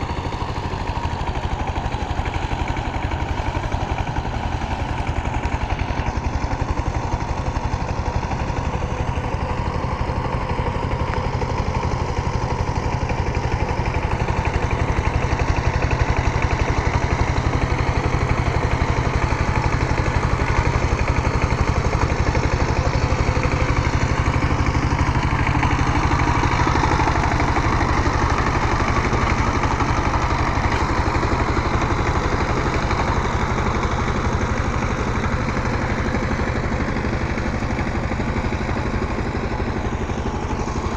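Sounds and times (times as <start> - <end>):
tiller engine running: 0.0 - 40.9.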